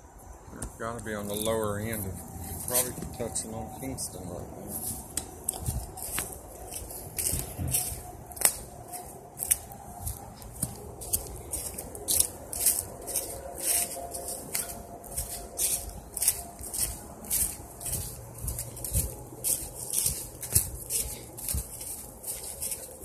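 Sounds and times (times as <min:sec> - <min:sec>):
footsteps on dry leaves: 0:01.1 - 0:23.0.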